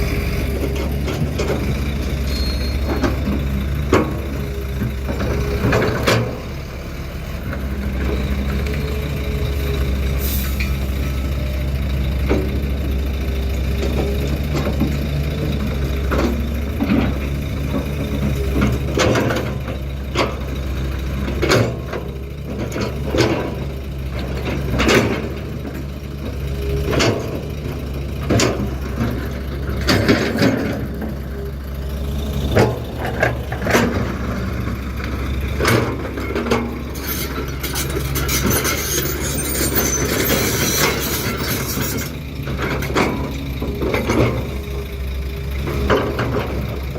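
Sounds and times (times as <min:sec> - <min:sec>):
heavy diesel machinery running: 0:00.0 - 0:46.9.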